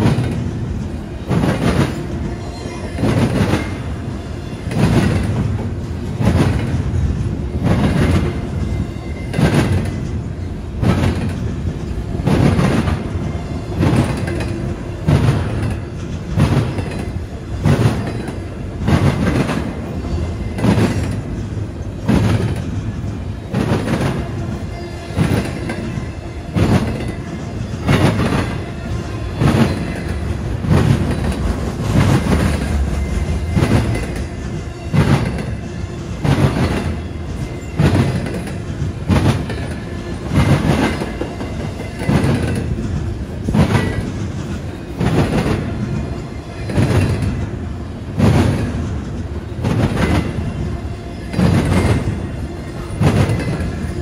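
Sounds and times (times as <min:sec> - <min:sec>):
train wheels clacking over rail joints: 0:00.0 - 0:02.3, 0:02.9 - 0:54.0
train rumble: 0:00.0 - 0:54.0.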